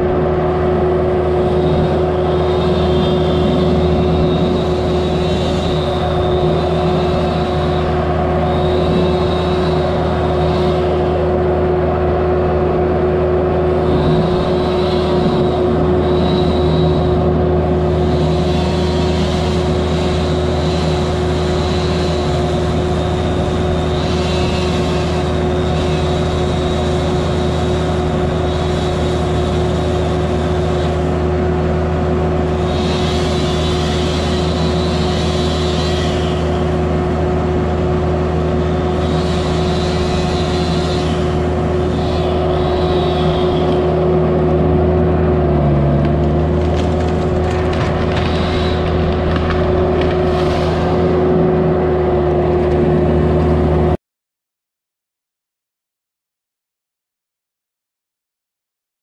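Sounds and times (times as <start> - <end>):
skid steer engine running: 0.0 - 54.0.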